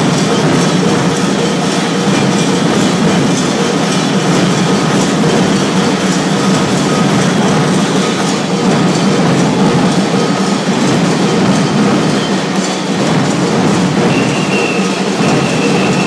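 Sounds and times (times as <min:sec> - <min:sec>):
percussion ensemble rattling rhythm: 0:00.0 - 0:16.0.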